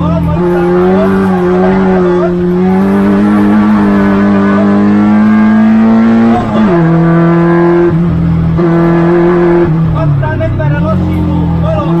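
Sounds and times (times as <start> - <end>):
race car engine pulling hard: 0.0 - 12.0.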